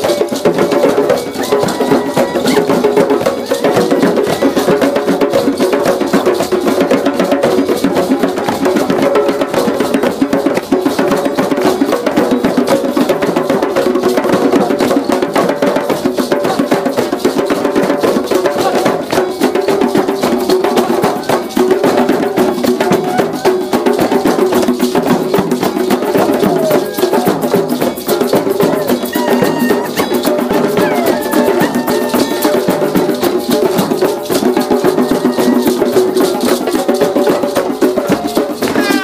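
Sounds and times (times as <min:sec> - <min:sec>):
hand drums playing rhythm: 0:00.0 - 0:39.0.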